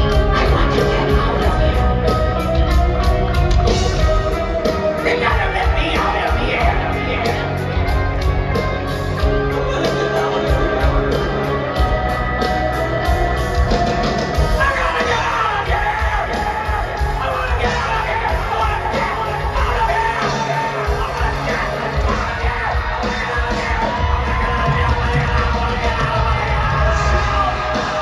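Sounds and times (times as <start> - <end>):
live rock band playing: 0.0 - 28.0
singer yelling and singing: 3.6 - 13.0, 13.9 - 28.0.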